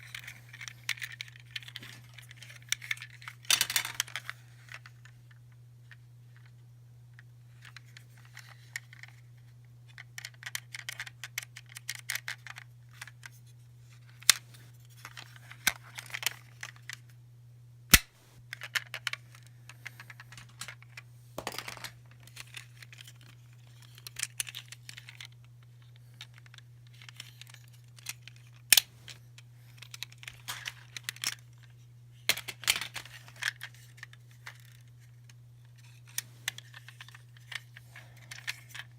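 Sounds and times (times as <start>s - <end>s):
plastic toys clicking and rattling: 0.0s - 5.2s, 7.6s - 9.2s, 9.9s - 13.4s, 14.1s - 17.0s, 18.5s - 38.9s.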